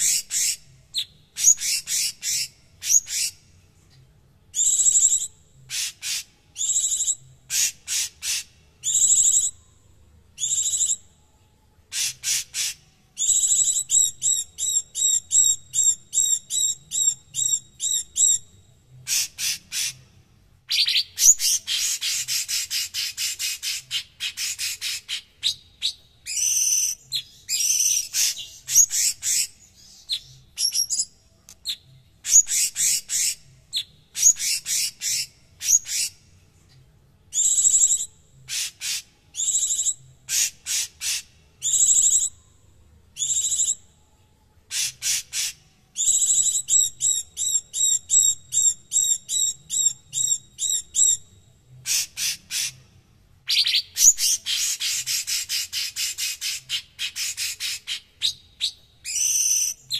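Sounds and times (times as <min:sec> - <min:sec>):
bird singing harsh chattering song: 0:00.0 - 0:03.6, 0:04.5 - 0:11.2, 0:11.8 - 0:36.4, 0:37.3 - 0:42.4, 0:43.1 - 0:44.0, 0:44.6 - 0:59.9.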